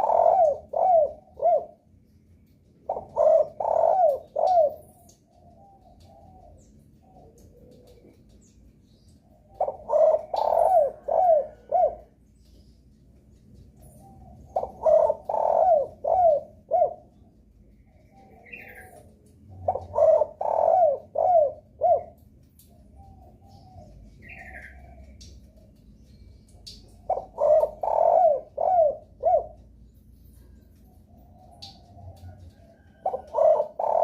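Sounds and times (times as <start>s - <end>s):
dove cooing: 0.0s - 2.0s, 2.6s - 12.6s, 13.7s - 26.1s, 26.8s - 29.8s, 30.8s - 34.0s.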